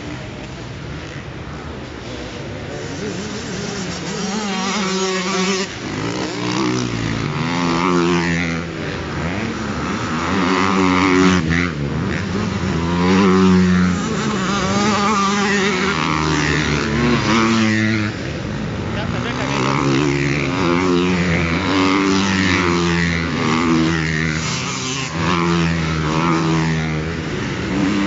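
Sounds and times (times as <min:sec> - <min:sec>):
motocross bikes accelerating past: 0:00.0 - 0:28.0.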